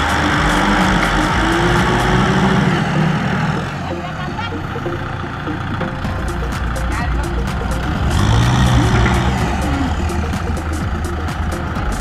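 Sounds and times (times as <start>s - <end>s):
tractor diesel engines running hard: 0.0s - 12.0s.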